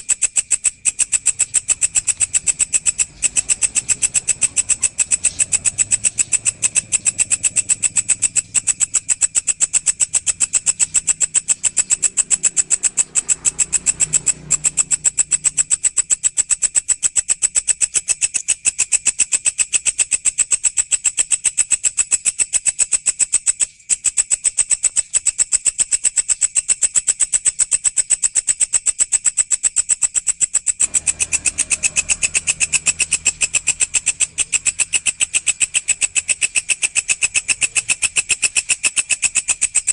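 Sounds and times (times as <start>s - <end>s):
insect buzzing trill: 0.0s - 39.9s.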